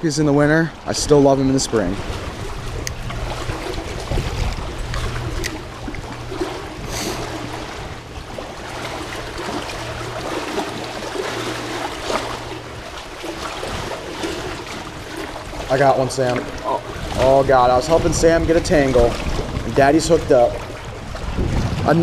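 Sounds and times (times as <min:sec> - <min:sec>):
shallow river water running: 0:00.0 - 0:22.0
steady low hum: 0:00.0 - 0:22.0.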